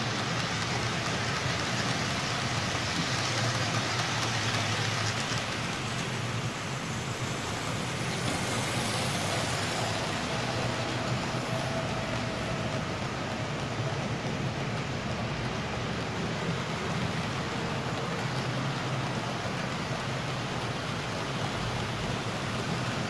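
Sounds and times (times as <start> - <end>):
model train rolling rumble: 0.0 - 23.0.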